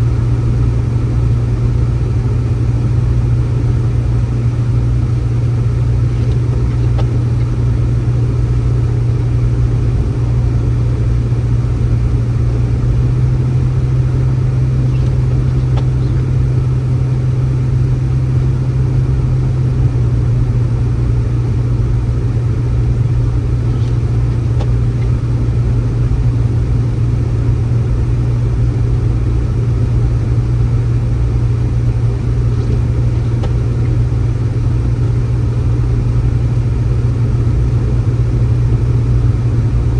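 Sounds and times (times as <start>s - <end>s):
low motor drone: 0.0s - 39.9s.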